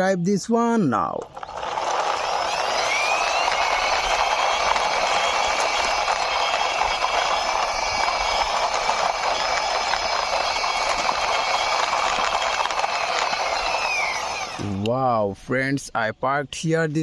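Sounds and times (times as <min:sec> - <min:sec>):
toy truck wheels rolling: 0:01.0 - 0:14.8.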